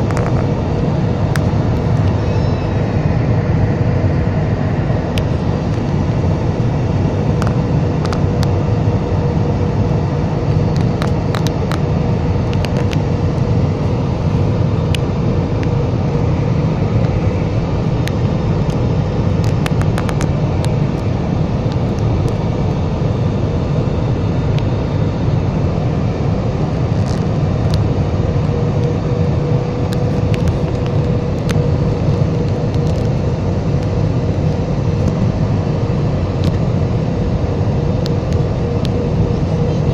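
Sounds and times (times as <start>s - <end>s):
jet engine drone and rushing air: 0.0s - 39.9s.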